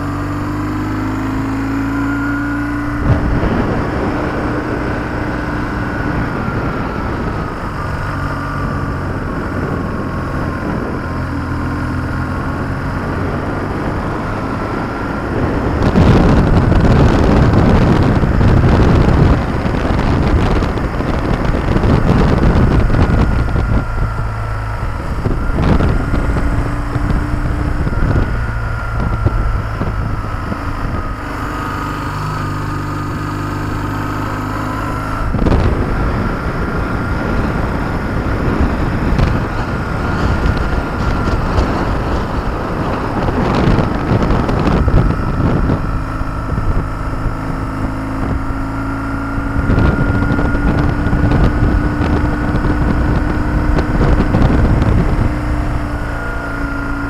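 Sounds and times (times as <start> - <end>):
motorcycle engine running: 0.0 - 57.0
wind rushing over microphone: 0.0 - 57.0
thin high whine: 0.6 - 57.0.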